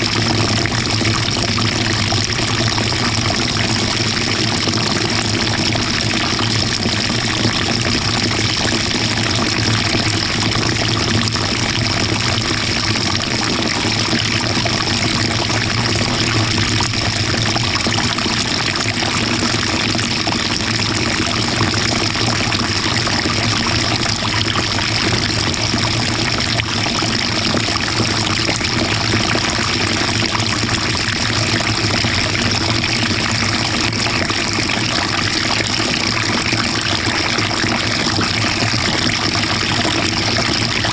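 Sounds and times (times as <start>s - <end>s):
water splashing in washing machine: 0.0s - 40.9s.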